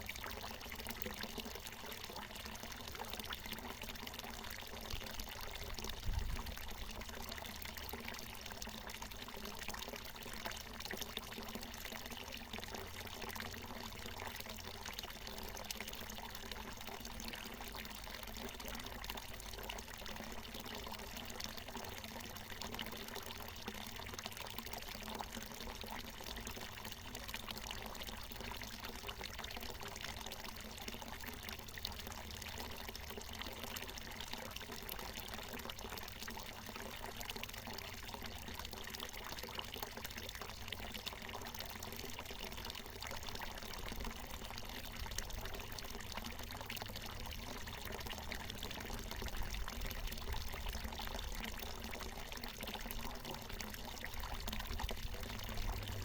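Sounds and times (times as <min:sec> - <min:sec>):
spring water pouring and splashing: 0:00.0 - 0:56.0.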